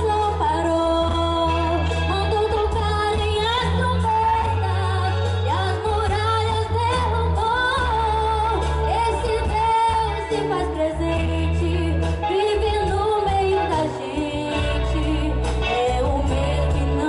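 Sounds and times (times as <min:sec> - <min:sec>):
instrumental accompaniment with deep bass: 0:00.0 - 0:17.0
woman singing gospel: 0:00.0 - 0:17.0.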